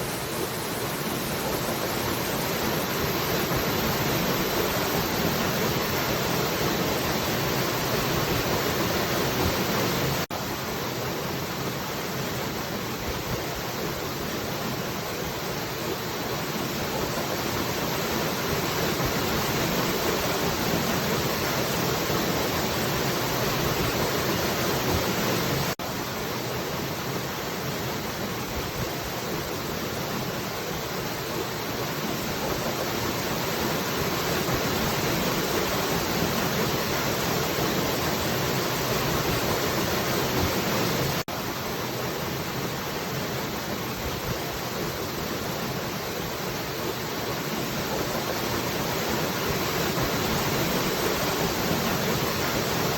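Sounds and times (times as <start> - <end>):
falling water rushing: 0.0 - 52.9.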